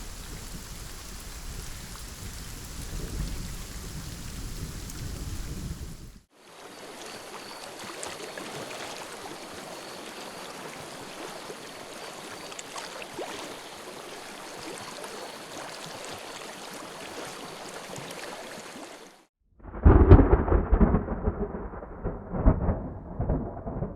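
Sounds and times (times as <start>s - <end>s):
water flowing and splashing: 0.0s - 19.3s.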